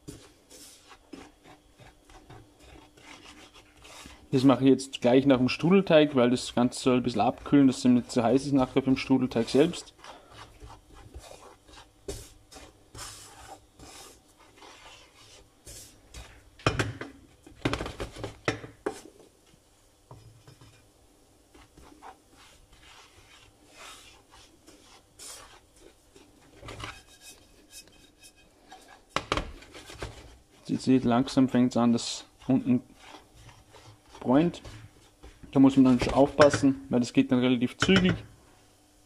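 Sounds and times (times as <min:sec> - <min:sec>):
wooden spoon scraping a pan: 0:00.0 - 0:16.6, 0:20.1 - 0:36.8.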